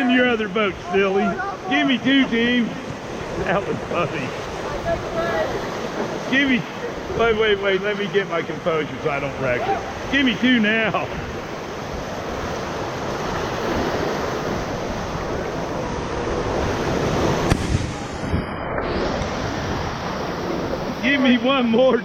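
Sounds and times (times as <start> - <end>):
whitewater rushing: 0.0 - 22.0.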